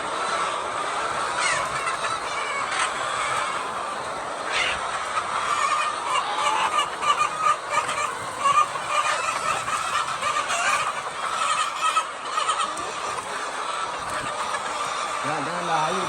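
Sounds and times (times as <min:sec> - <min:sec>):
hens calling: 0:00.0 - 0:16.0.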